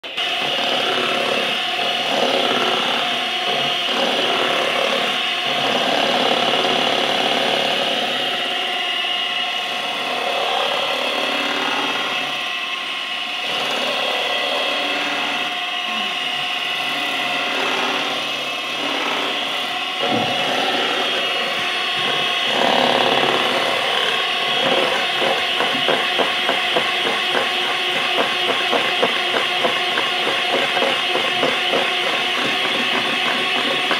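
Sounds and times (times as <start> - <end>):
electric hand mixer whisking cream: 0.0 - 33.9.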